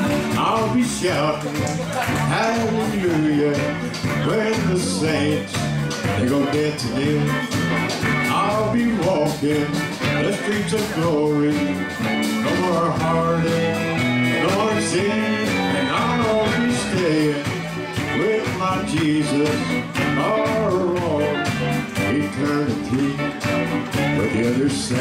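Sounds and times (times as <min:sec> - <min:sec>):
country band playing: 0:00.0 - 0:25.0
lead guitar: 0:00.0 - 0:25.0.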